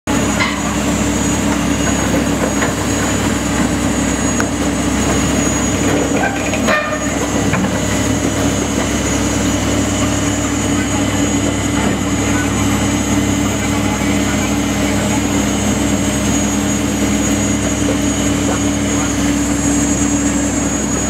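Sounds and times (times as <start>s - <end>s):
excavator diesel engine droning: 0.0s - 21.0s.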